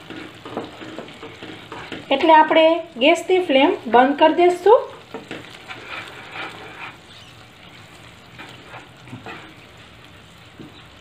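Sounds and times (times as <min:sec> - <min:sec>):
spatula scraping in pan: 0:00.0 - 0:02.7, 0:03.5 - 0:10.9.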